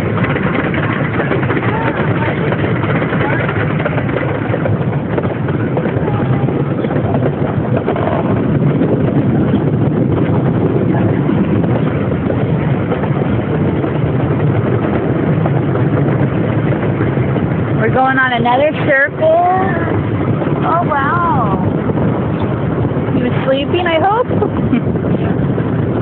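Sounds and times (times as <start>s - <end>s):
small train rumbling: 0.0s - 26.0s.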